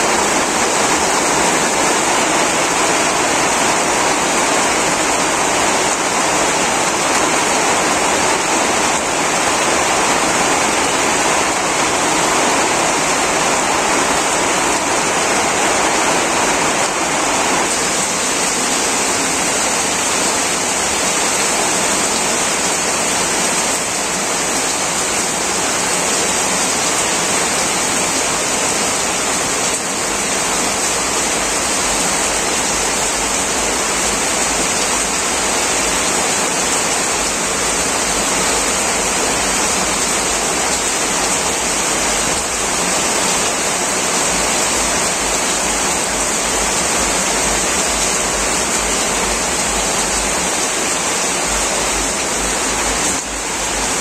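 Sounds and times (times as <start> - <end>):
heavy rain on tin roofs: 0.0 - 54.0.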